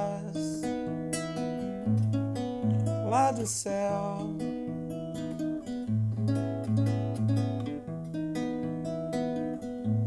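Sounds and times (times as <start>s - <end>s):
acoustic guitar playing chords: 0.0s - 10.0s.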